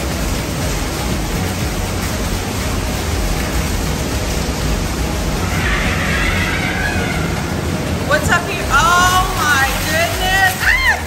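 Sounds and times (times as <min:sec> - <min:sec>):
water rushing in rock tunnel: 0:00.0 - 0:11.0.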